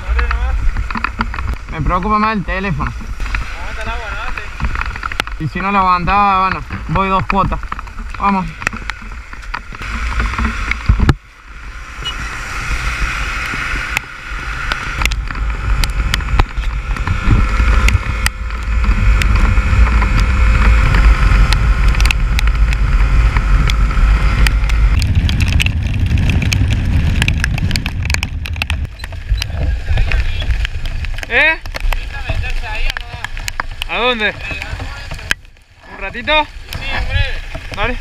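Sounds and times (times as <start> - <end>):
raindrops ticking on camera: 0.0 - 38.0
wind buffeting microphone: 0.0 - 38.0.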